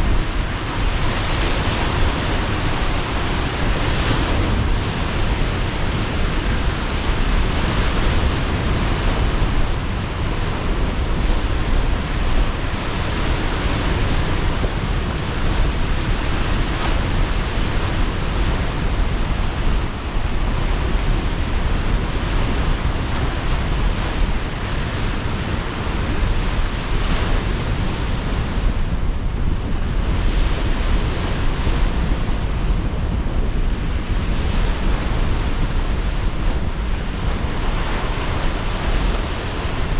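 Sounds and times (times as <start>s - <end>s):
sea surf breaking: 0.0s - 29.6s, 33.5s - 39.9s
strong gusting wind: 0.0s - 39.9s.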